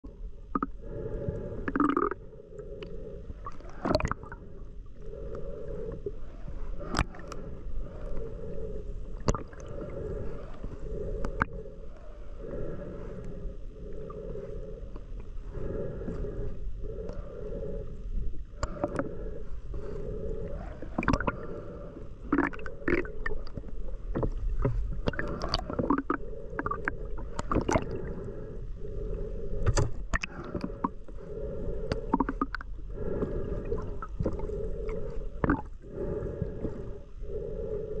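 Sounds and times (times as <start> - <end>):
underwater water wash: 0.0 - 38.0.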